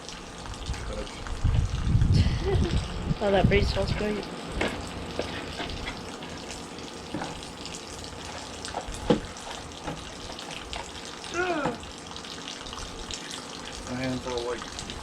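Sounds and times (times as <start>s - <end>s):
small water drips: 0.0s - 3.0s, 4.1s - 15.0s
water trickling and splashing: 0.0s - 15.0s.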